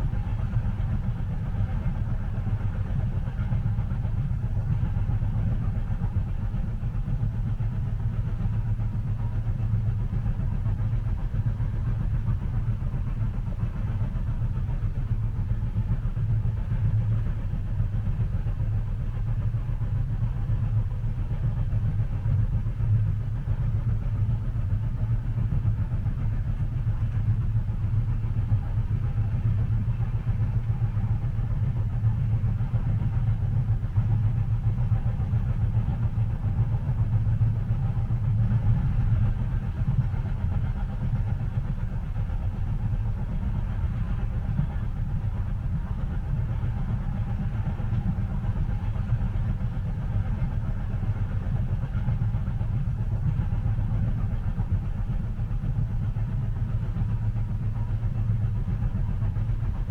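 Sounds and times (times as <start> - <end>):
low rumble of a train: 0.0 - 59.9.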